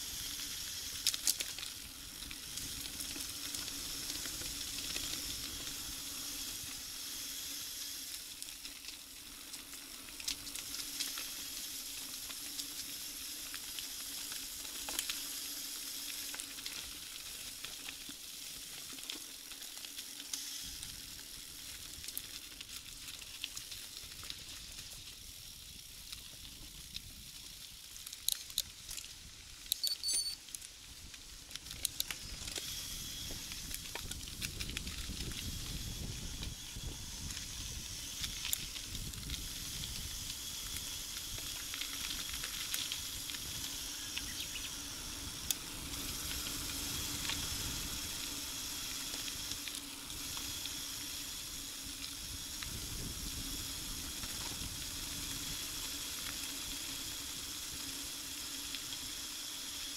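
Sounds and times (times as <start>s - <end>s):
bike tyres hissing on road: 0.0s - 29.7s, 30.4s - 59.9s.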